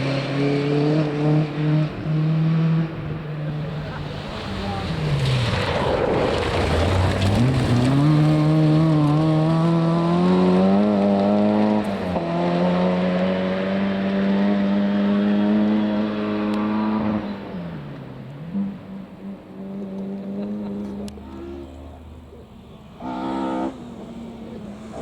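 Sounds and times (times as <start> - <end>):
rally car engine at full throttle: 0.0 - 25.0.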